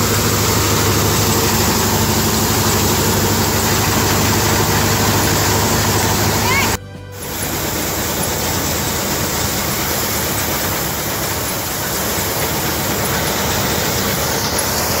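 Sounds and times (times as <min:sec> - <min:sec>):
threshing machine running: 0:00.0 - 0:15.0.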